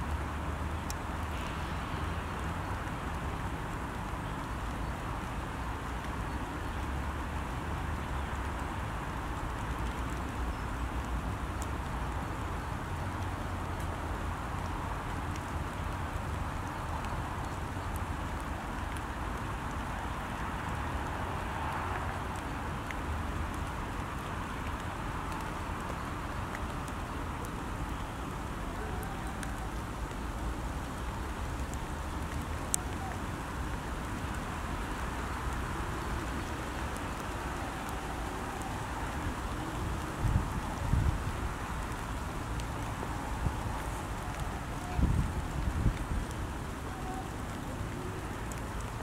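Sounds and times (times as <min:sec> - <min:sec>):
rain falling on pond: 0:00.0 - 0:49.0.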